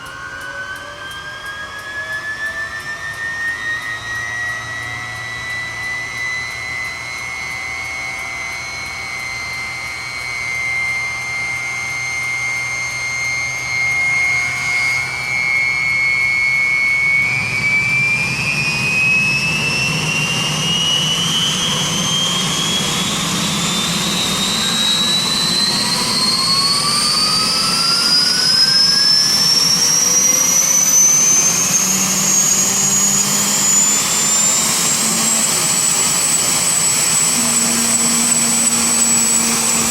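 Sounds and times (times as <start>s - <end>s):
turbine engine whining: 0.0s - 39.9s.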